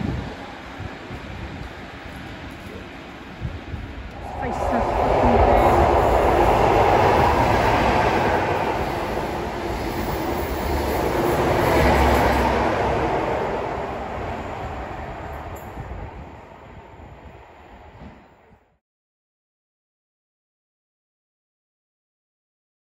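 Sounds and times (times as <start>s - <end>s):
train passing at speed: 0.0s - 18.8s.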